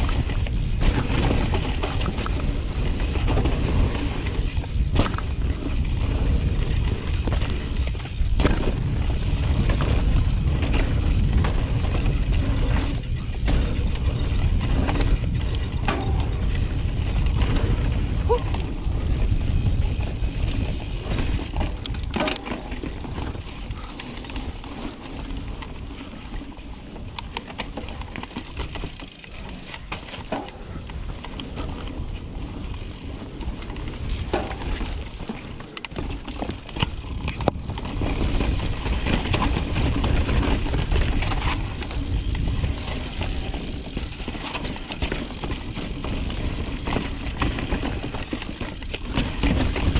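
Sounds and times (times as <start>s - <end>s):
bike knocking and rattling: 0.0s - 49.9s
wind and tyres rumbling: 0.0s - 49.9s.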